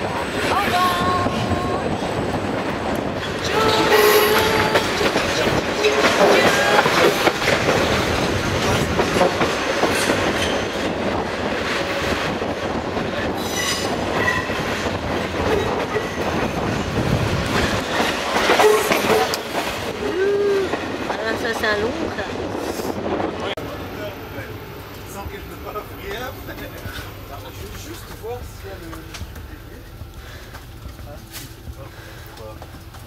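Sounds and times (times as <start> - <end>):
train wheels clattering over joints: 0.0 - 20.0, 26.0 - 33.0.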